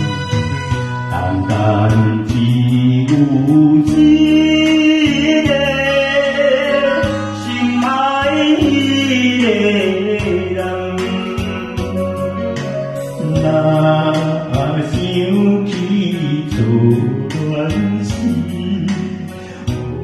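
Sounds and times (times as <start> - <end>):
karaoke backing music: 0.0 - 20.0
man singing into microphone: 0.0 - 20.0.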